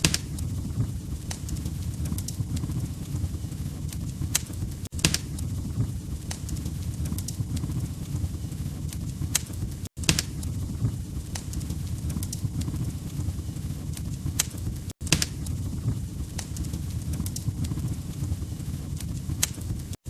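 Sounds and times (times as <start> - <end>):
fireplace fire burning: 0.0 - 20.0
logs crackling and popping: 0.0 - 20.0.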